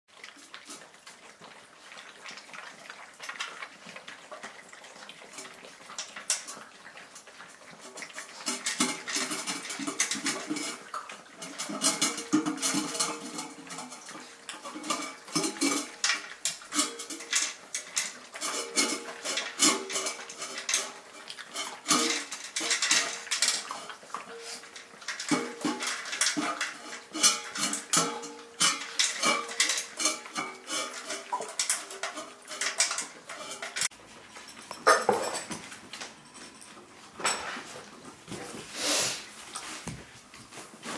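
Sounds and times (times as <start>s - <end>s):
puppies lapping water: 0.1s - 40.9s
metal bowl clattering on tiles: 2.6s - 38.7s.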